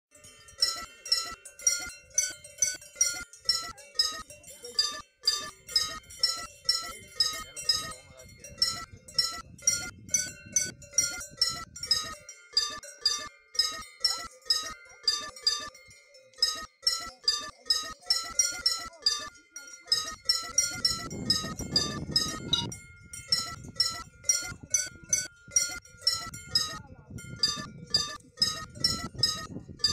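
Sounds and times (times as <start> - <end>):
cow bell clanking: 0.1 - 29.9.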